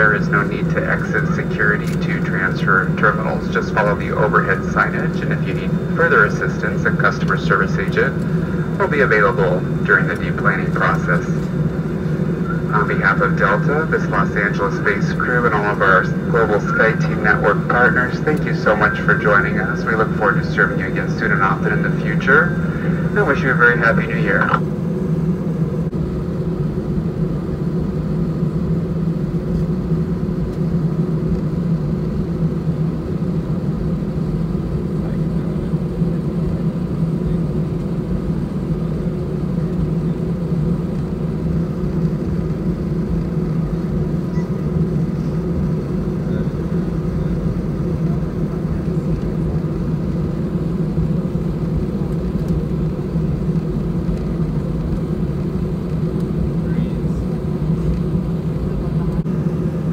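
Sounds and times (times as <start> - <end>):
cabin air noise: 0.0 - 59.9
jet engines idling hum: 0.0 - 59.9.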